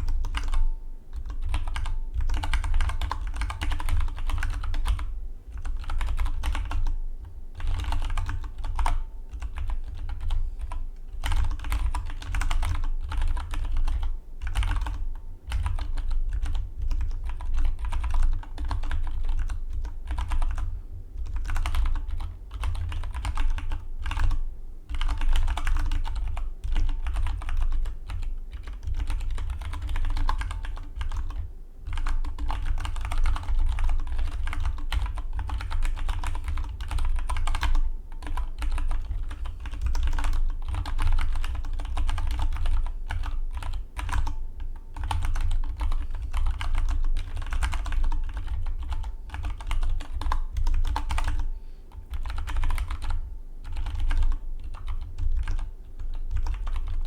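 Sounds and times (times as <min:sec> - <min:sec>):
mechanical keyboard typing: 0:00.0 - 0:07.0, 0:07.6 - 0:57.0.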